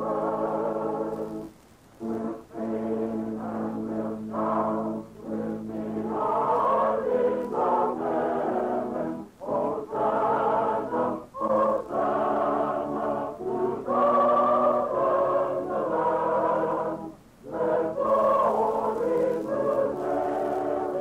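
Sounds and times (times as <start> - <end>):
church choir singing a hymn: 0.0 - 21.0.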